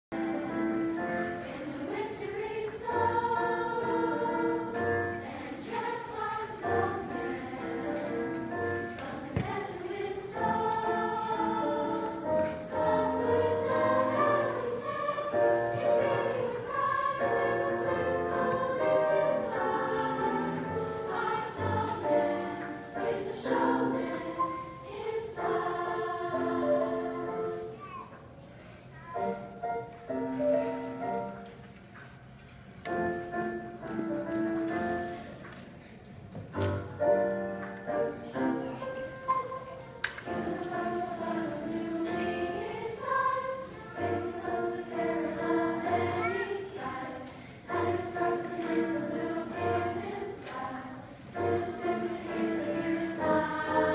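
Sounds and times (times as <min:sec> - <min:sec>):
girls' choir singing in harmony: 0:00.1 - 0:27.8, 0:32.9 - 0:35.4, 0:36.5 - 0:38.8, 0:40.1 - 0:53.9.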